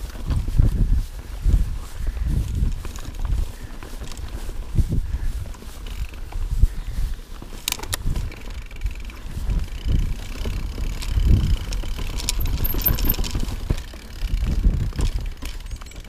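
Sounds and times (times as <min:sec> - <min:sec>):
bike tyres rumbling over stones: 0:00.0 - 0:16.0
bike chain rattling and clicking: 0:02.2 - 0:16.0.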